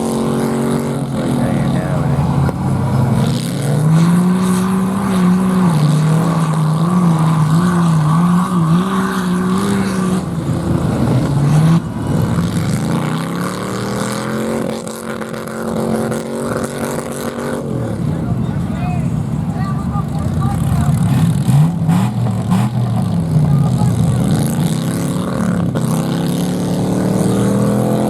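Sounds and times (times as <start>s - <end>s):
off-road vehicle engine revving: 0.0s - 28.0s.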